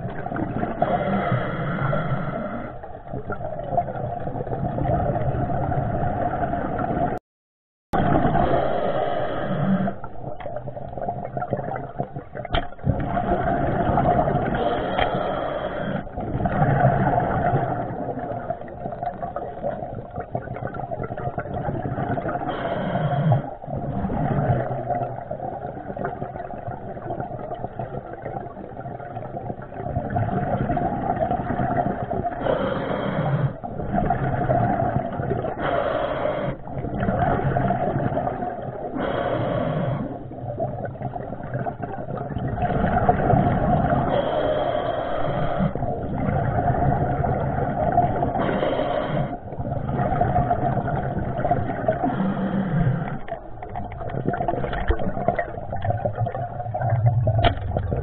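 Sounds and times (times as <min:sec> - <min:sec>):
muffled underwater watery rush: 0:00.0 - 0:07.2, 0:07.9 - 0:58.0.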